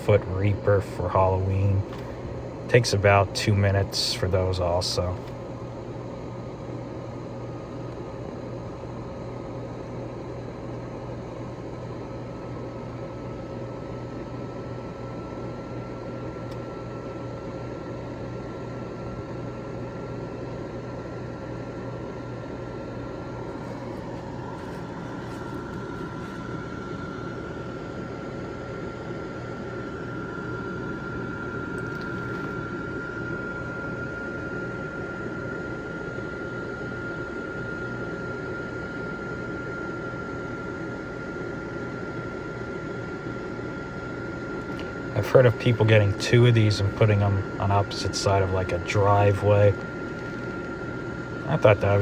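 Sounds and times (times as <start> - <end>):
inflatable blower fan humming: 0.0 - 52.0
thin rising whine: 0.0 - 52.0.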